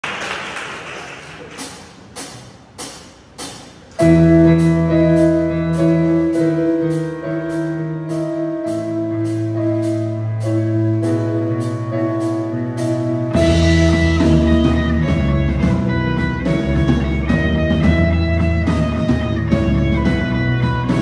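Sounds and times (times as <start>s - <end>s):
live band playing: 1.5s - 21.0s.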